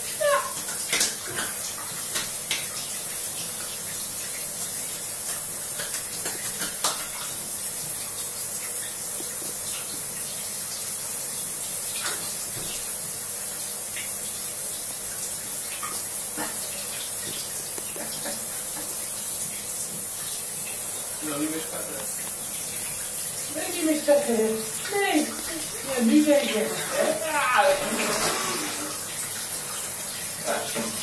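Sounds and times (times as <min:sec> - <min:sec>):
water running from bath tap: 0:00.0 - 0:31.0.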